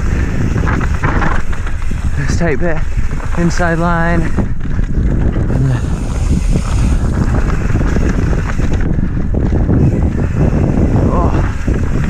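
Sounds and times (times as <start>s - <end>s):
bike tyre and trail noise: 0.0s - 12.0s
wind rushing over microphone: 0.0s - 12.0s.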